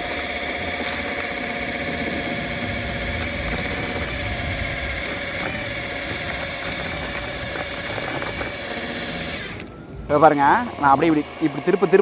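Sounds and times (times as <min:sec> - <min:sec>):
electric drill motor whining: 0:00.0 - 0:12.0
propeller churning water: 0:00.0 - 0:12.0.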